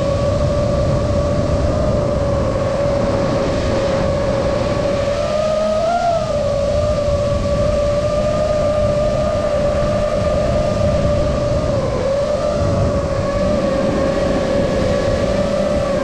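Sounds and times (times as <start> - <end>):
drone motors whining: 0.0 - 16.0
low rushing noise: 0.0 - 16.0.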